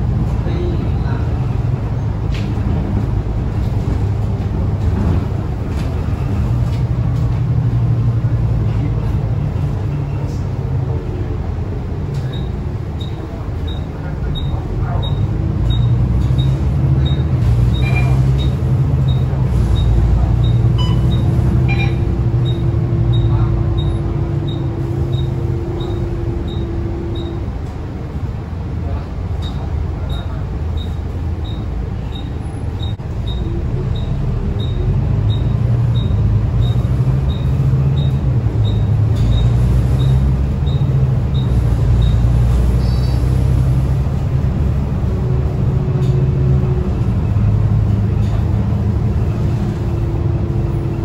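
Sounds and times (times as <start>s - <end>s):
bus diesel engine running: 0.0s - 51.0s
road noise: 0.0s - 51.0s.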